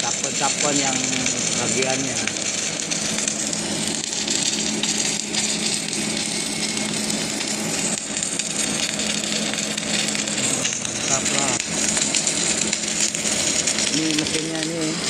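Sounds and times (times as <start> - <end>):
low electrical hum: 0.0 - 15.0
welding arc hiss and crackle: 0.0 - 15.0.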